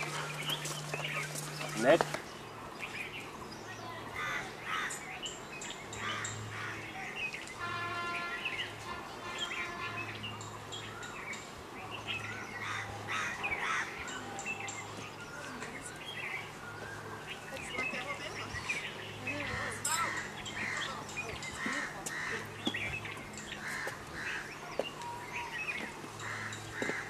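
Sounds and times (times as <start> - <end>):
birds calling and chirping: 0.0 - 27.0.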